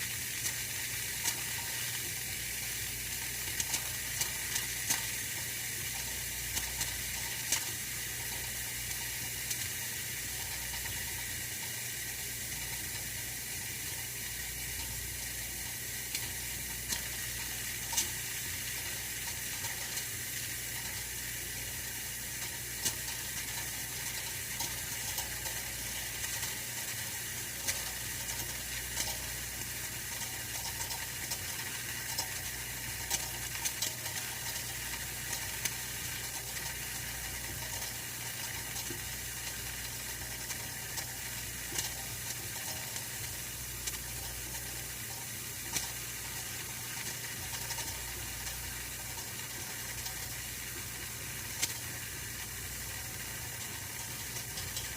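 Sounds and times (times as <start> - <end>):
heater hissing: 0.0 - 54.9
small ticks and crackles: 0.4 - 54.9.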